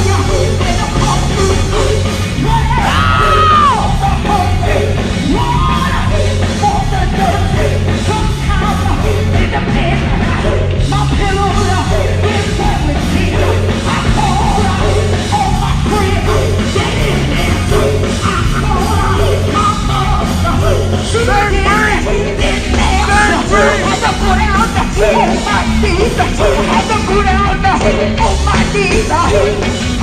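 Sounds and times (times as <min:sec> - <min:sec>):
gospel band with bass and drums: 0:00.0 - 0:30.0
people singing: 0:00.0 - 0:30.0
shouted vocal ad-libs: 0:00.0 - 0:30.0.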